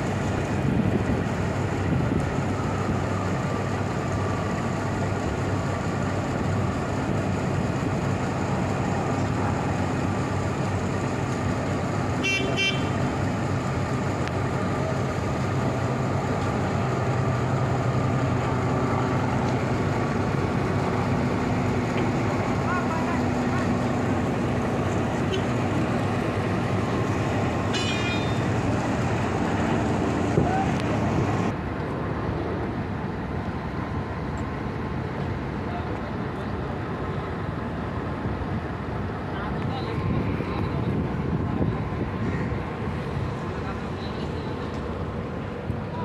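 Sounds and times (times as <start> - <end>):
boat engines droning: 0.0 - 46.0.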